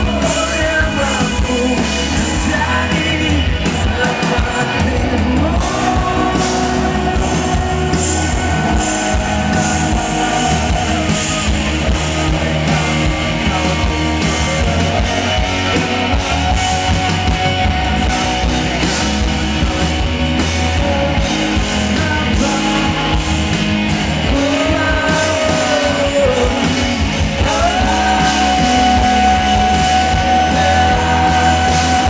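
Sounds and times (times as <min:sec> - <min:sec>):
bass guitar: 0:00.0 - 0:32.0
drums: 0:00.0 - 0:32.0
electric guitar: 0:00.0 - 0:32.0
person singing: 0:00.0 - 0:32.0.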